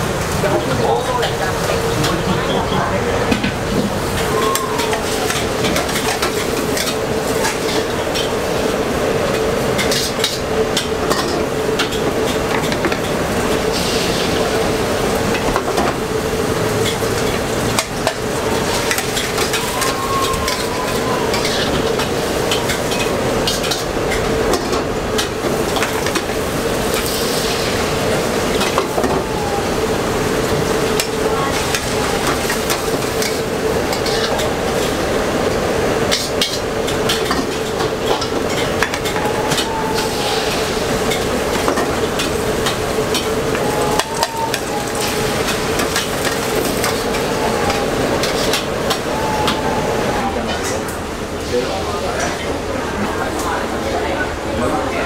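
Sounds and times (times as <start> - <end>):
food sizzling: 3.9 - 50.3.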